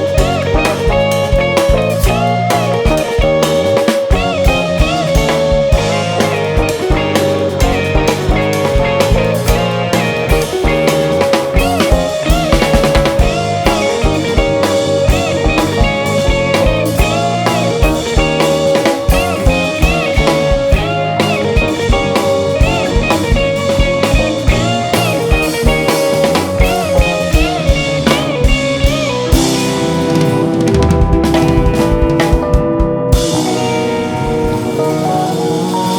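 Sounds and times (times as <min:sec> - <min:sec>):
bass guitar: 0:00.0 - 0:35.9
drum kit steady beat: 0:00.0 - 0:35.9
electric guitar lead bending notes: 0:00.0 - 0:35.9.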